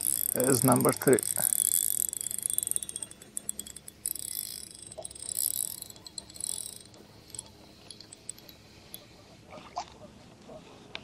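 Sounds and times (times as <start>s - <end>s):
fishing reel ratcheting whir: 0.0s - 9.2s.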